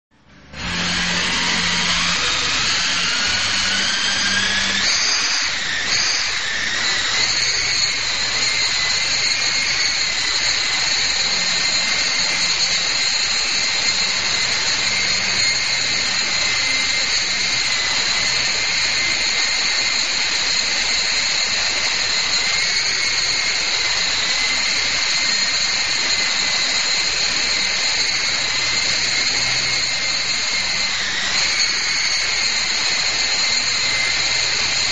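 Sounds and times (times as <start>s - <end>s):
rc helicopter rotors whining: 0.3s - 34.9s.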